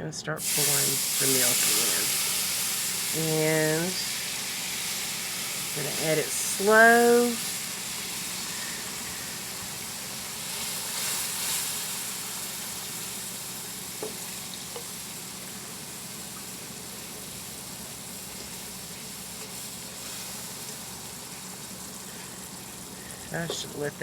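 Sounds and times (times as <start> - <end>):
roux sizzling in a pan: 0.4 - 24.0.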